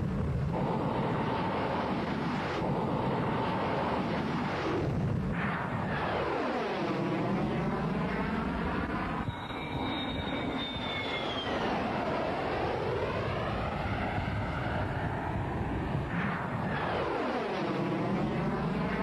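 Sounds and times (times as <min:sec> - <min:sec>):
jet roar flyby: 0:00.0 - 0:19.0
turbine whine sliding down: 0:00.5 - 0:16.0.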